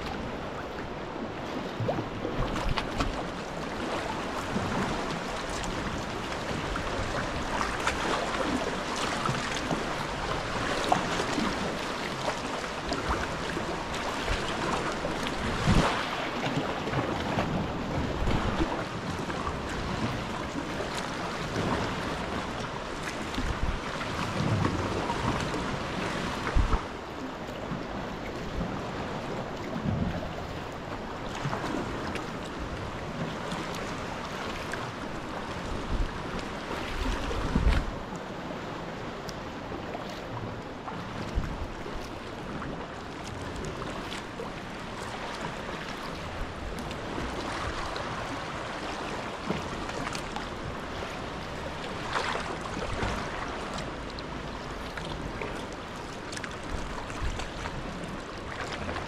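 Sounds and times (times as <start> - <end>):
sea water lapping against rocks: 0.0 - 59.0.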